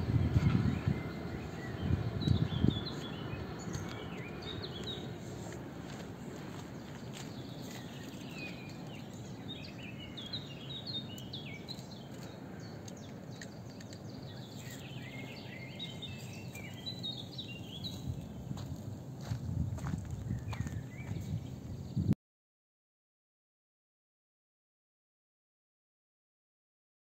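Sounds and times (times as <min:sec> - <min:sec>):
freight train rumble: 0:00.0 - 0:21.9
songbirds chirping: 0:00.0 - 0:22.1.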